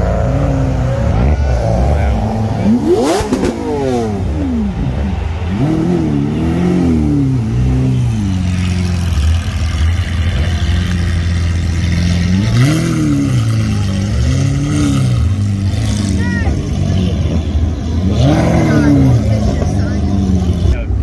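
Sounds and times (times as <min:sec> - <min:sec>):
engine revving in throttle blips: 0:00.0 - 0:21.0
sports car engine idling: 0:00.0 - 0:21.0.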